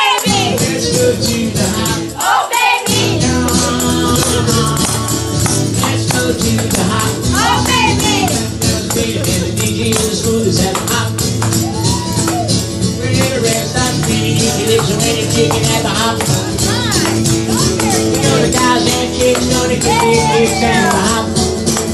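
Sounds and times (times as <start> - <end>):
tambourines shaken and struck: 0.0 - 21.9
upbeat music: 0.0 - 21.9
voices singing along: 0.0 - 21.9.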